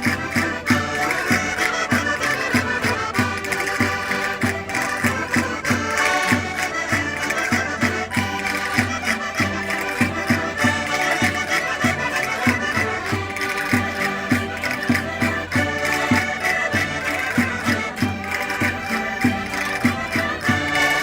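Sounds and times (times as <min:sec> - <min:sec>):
button accordions playing folk tune: 0:00.0 - 0:21.0.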